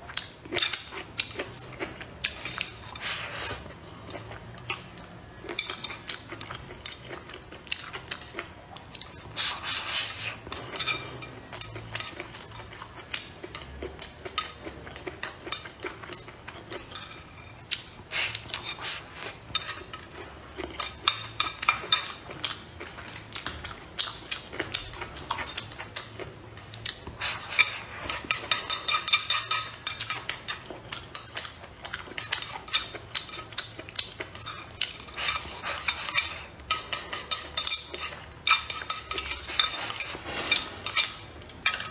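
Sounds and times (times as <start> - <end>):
chewing: 0.0 - 41.9.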